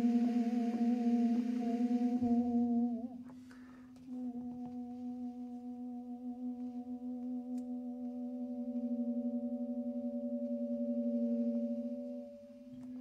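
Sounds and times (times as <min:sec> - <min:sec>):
higher steady note: 0:00.0 - 0:13.0
tuba holding long note: 0:00.0 - 0:13.0.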